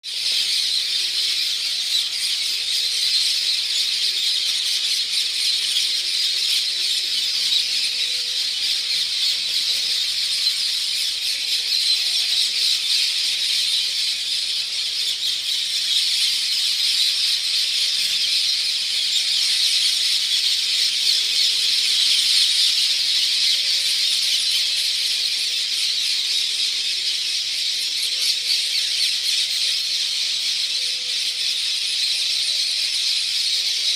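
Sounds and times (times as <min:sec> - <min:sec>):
parakeet flock screeching: 0:00.1 - 0:33.9.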